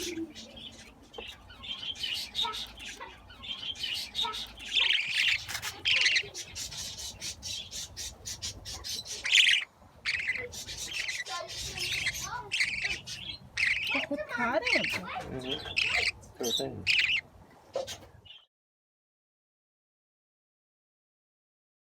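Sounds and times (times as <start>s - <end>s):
budgerigars chattering: 0.0s - 18.1s.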